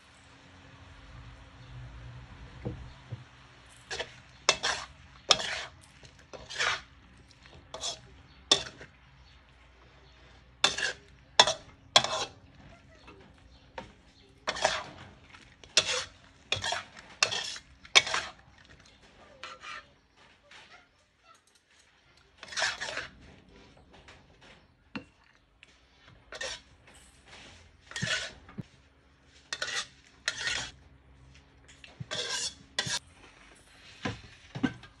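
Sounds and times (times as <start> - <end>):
metal spatula scraping wok: 3.7 - 25.1, 25.7 - 28.7, 29.3 - 30.8, 31.9 - 35.0.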